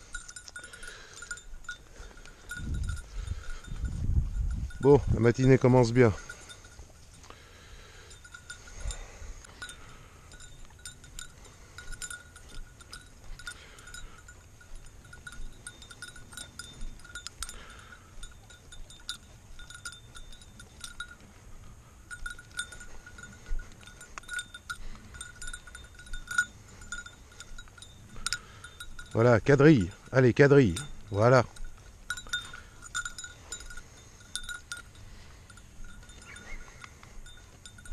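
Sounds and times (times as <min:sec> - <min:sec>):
small bell tinkling: 0:00.0 - 0:37.9.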